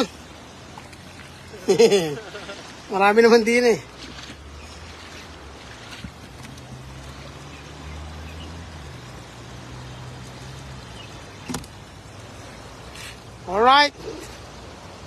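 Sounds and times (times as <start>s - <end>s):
river water running over weir: 0.0s - 15.0s.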